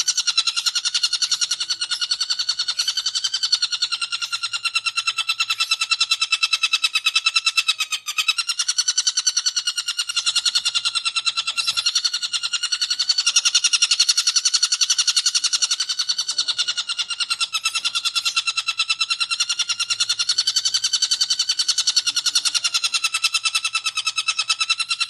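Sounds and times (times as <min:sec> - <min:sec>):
shrike chattering song: 0:00.0 - 0:25.0.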